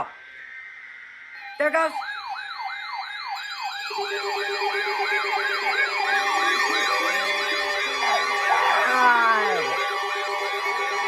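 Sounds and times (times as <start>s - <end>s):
electronic sirens sweeping: 0.0s - 11.0s.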